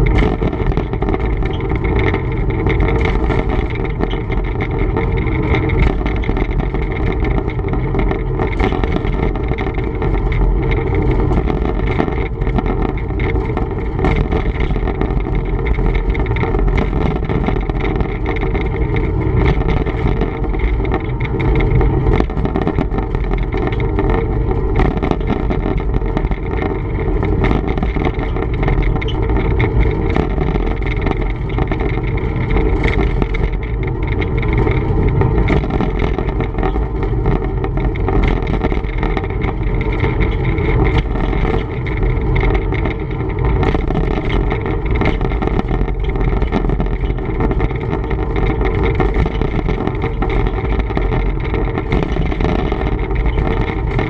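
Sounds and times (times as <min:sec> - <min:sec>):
diesel locomotive engine rumbling: 0:00.0 - 0:54.0
faint ticks and crackles: 0:00.0 - 0:54.0.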